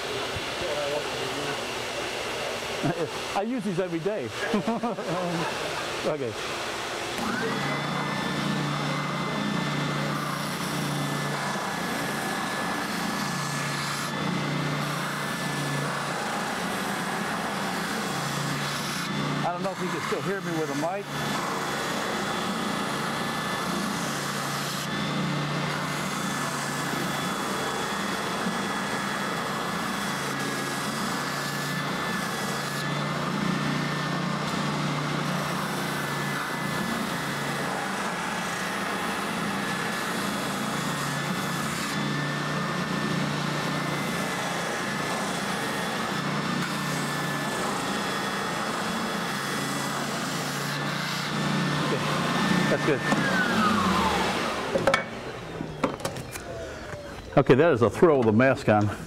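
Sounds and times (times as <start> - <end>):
spindle sander motor hum: 0.0 - 57.4.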